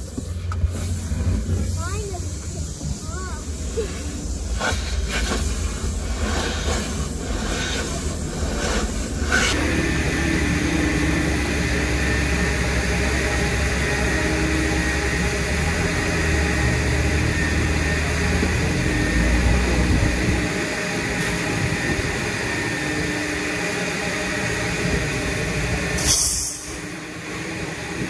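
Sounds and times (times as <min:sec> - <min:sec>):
air compressor drone and hiss: 0:00.0 - 0:28.0.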